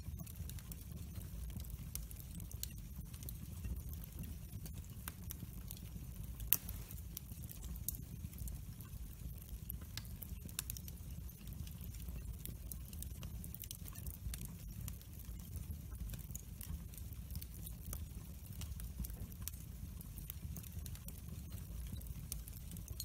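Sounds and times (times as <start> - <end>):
low fire rumble: 0.0 - 23.0
wood fire crackling: 0.0 - 23.0.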